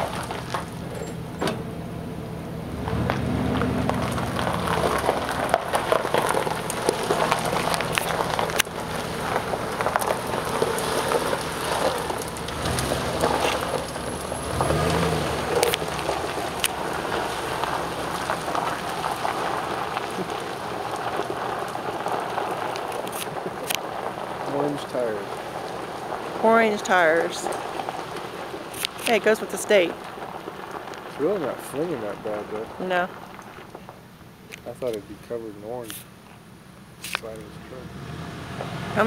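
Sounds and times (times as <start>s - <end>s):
engine revving: 0.0s - 30.3s, 31.0s - 33.0s, 37.0s - 39.0s
tyres churning through mud: 0.0s - 39.0s
spatter of mud and stones: 2.9s - 35.1s.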